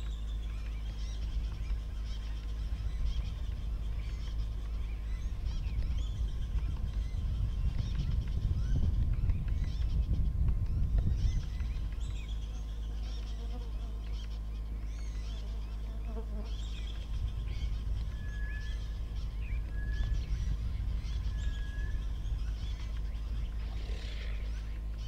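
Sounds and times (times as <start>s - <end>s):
birds chirping and trilling: 0.0s - 25.0s
steady low rumble: 0.0s - 25.0s.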